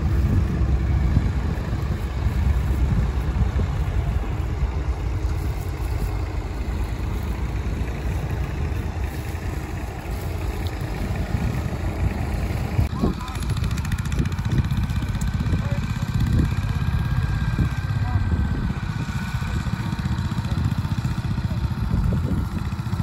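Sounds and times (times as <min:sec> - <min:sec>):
tractor engines rumbling: 0:00.0 - 0:23.0.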